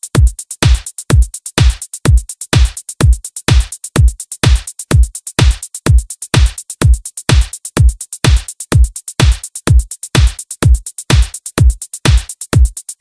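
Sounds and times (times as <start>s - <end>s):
closed hi-hat ticks: 0.0s - 13.0s
drum machine kick: 0.0s - 13.0s
open hi-hat: 0.0s - 13.0s.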